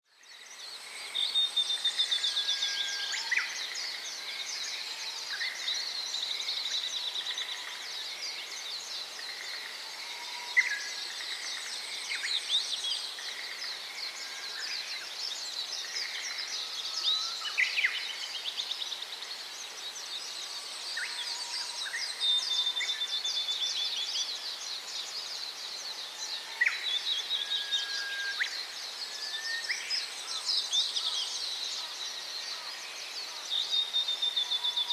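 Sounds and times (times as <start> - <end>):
small birds chirping and trilling: 0.1 - 34.9.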